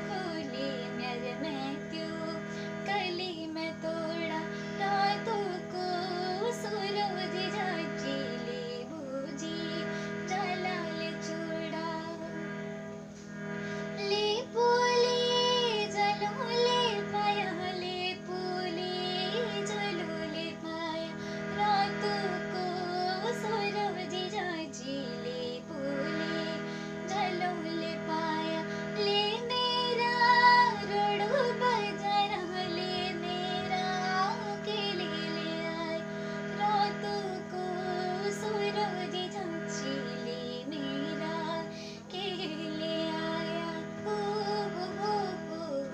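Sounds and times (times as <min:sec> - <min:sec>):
woman singing folk song: 0:00.0 - 0:12.6, 0:13.7 - 0:45.9
steady held backing tone: 0:00.0 - 0:45.9.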